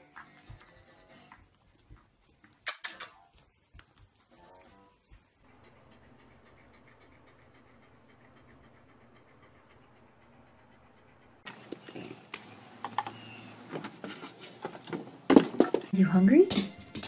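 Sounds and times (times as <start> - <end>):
dog panting: 0.0 - 14.8.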